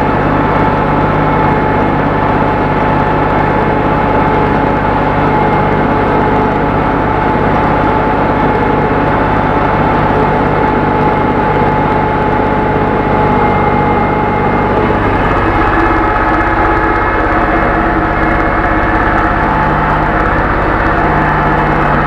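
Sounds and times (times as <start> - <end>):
steady high whine: 0.0 - 22.0
tractor diesel engine running: 0.0 - 22.0.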